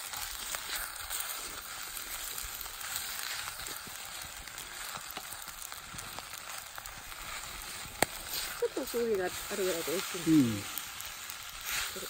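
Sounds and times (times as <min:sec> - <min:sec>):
rice sizzling in a frying pan: 0:00.0 - 0:12.0.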